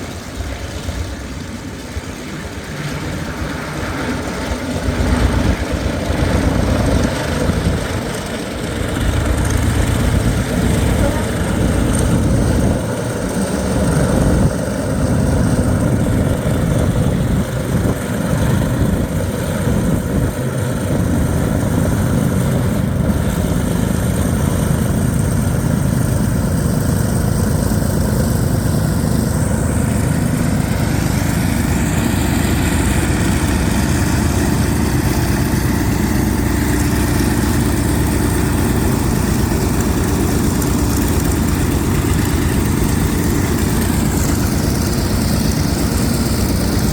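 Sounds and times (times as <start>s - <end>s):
radial aircraft engine running: 0.0s - 46.9s.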